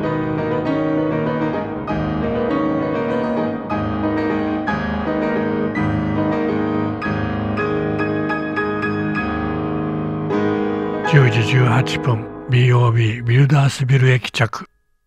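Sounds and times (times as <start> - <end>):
piano background music: 0.0 - 14.3.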